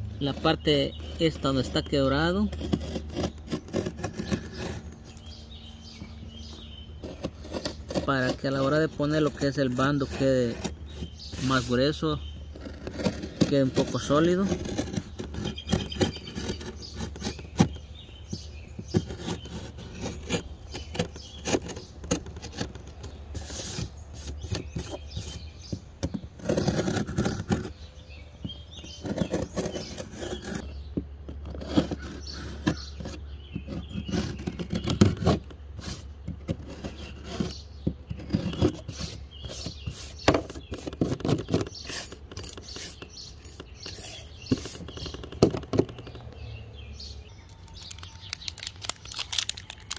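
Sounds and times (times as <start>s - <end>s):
utility knife scraping: 0.2s - 46.4s, 47.5s - 49.9s.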